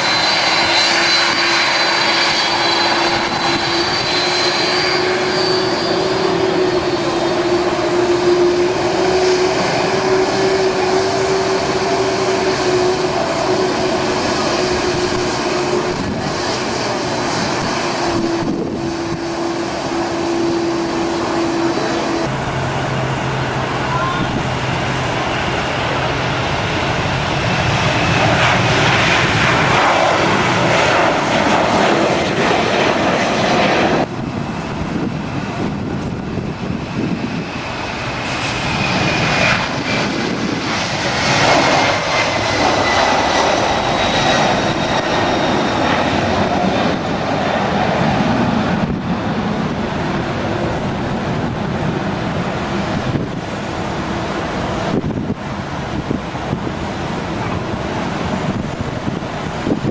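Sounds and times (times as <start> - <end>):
airliner engines roaring: 0.0 - 59.9
high engine whine: 0.0 - 59.9.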